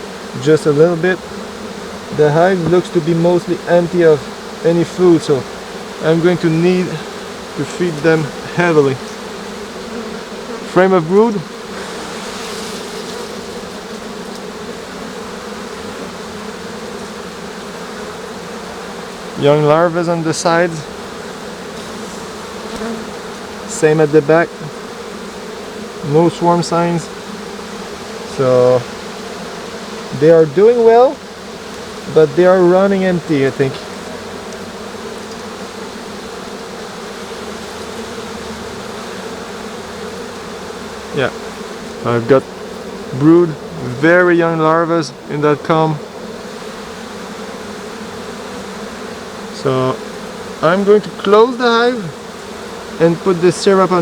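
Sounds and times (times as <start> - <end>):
honey bees humming: 0.0 - 54.0.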